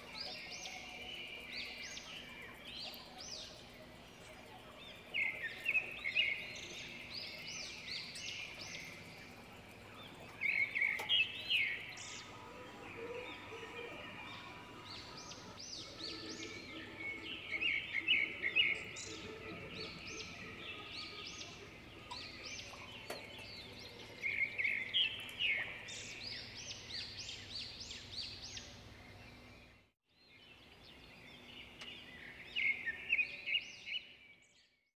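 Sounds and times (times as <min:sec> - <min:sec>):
bird chirping: 0:00.0 - 0:34.8.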